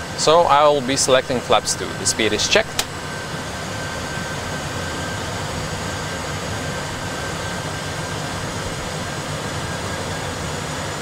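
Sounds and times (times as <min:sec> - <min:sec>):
simulated engine and airflow rush: 0:00.0 - 0:11.0.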